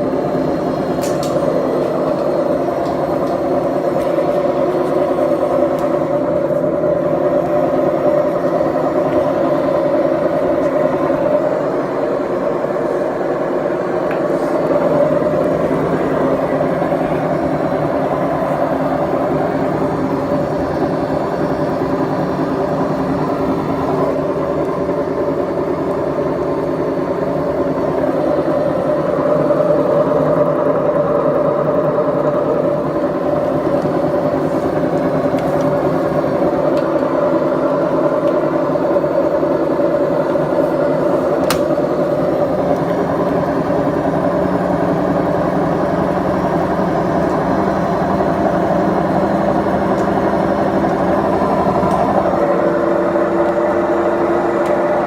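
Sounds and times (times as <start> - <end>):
washing machine drum droning: 0.0 - 55.0.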